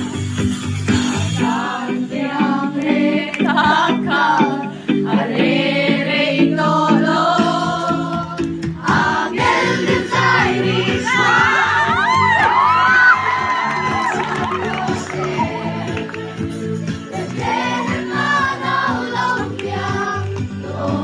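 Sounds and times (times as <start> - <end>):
voices singing together: 0.8 - 21.0.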